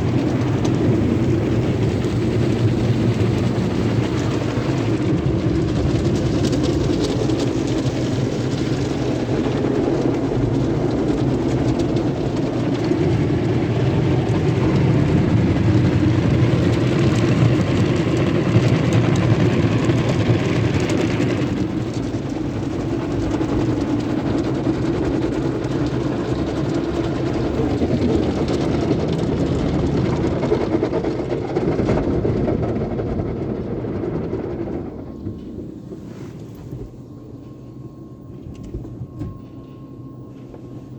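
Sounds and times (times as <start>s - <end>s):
car wash machinery rumbling: 0.0s - 40.9s.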